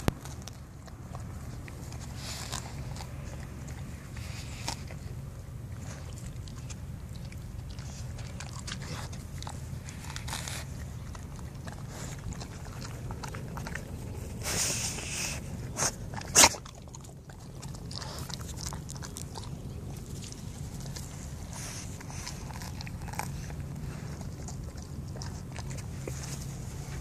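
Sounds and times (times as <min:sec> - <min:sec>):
dog chewing grass: 0:00.0 - 0:27.0
steady low rumble: 0:00.0 - 0:27.0.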